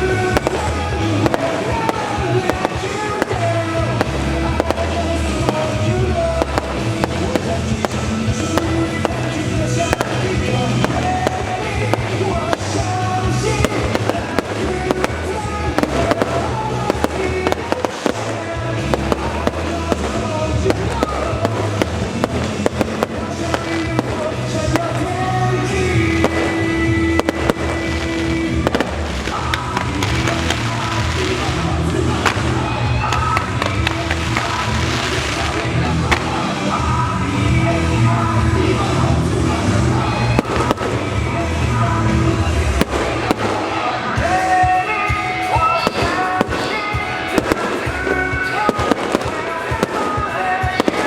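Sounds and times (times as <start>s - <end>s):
fireworks bursting: 0.0s - 51.0s
loud music: 0.0s - 51.0s.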